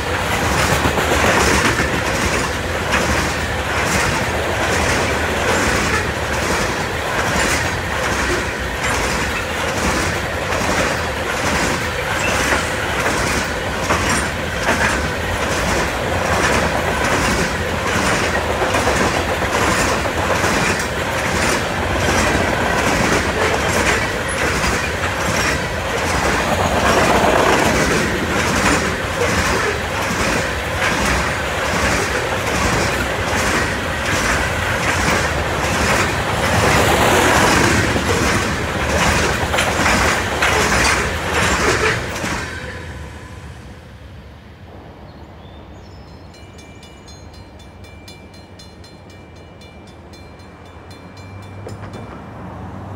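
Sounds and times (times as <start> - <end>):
wheels clacking on rails: 0.0 - 43.4, 46.1 - 52.9
freight train rumbling past: 0.0 - 52.9.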